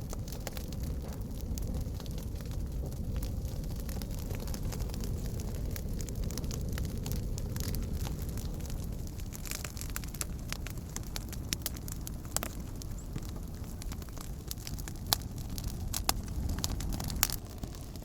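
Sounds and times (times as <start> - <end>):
campfire crackling and popping: 0.0 - 18.0
low steady rumble: 0.0 - 18.0.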